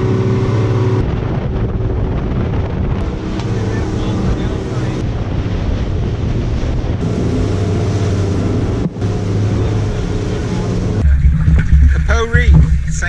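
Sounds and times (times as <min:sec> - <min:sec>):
motorboat engine hum: 0:00.0 - 0:13.0
rushing water: 0:00.0 - 0:13.0
wind buffeting microphone: 0:00.0 - 0:13.0.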